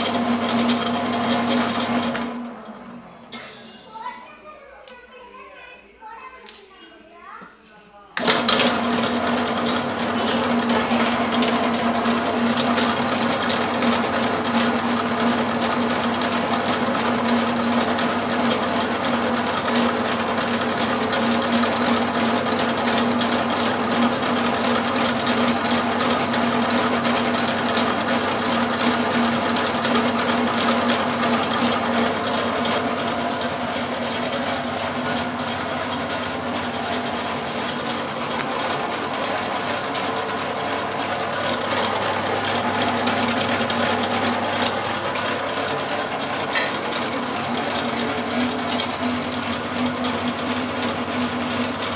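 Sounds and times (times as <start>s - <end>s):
mixer motor hum: 0.0s - 4.4s, 8.2s - 51.9s
whisk rattling in metal bowl: 9.5s - 51.9s.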